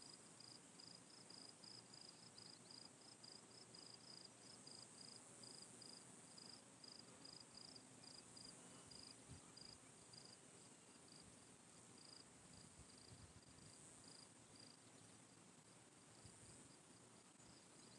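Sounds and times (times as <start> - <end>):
cricket chirping: 0.0 - 11.3, 11.9 - 17.9
steady high hiss: 0.0 - 17.9.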